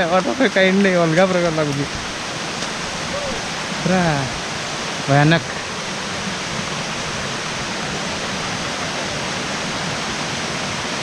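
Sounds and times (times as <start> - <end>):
rushing stream water: 0.0 - 11.0.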